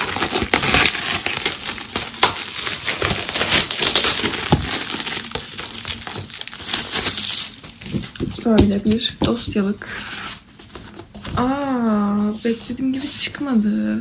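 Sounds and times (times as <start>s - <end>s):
plastic wrapping crinkling: 0.0s - 13.6s.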